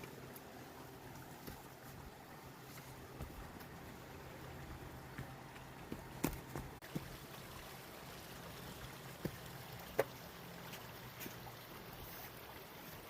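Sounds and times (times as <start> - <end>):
faint outdoor noise: 0.0 - 13.0.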